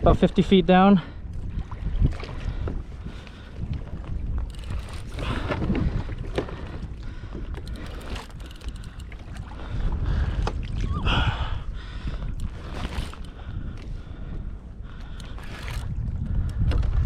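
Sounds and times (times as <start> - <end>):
wind buffeting microphone: 0.0 - 17.0
water splashing against kayak hull: 1.3 - 11.0, 12.0 - 17.0.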